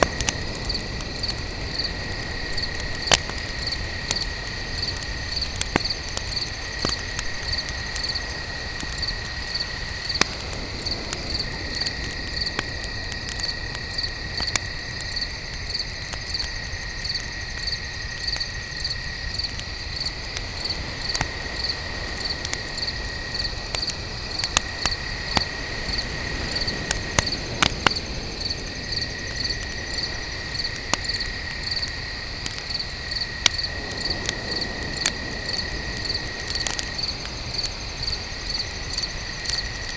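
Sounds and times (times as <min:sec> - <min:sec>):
campfire crackling and popping: 0:00.0 - 0:39.9
crickets chirping: 0:00.0 - 0:39.9
steady insect trill: 0:00.0 - 0:39.9.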